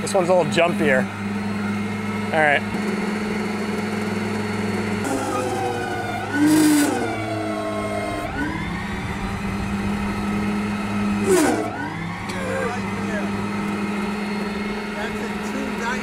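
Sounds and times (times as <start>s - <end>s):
hydraulic pump motor whining: 0.0s - 16.0s
steady low hum: 0.0s - 16.0s.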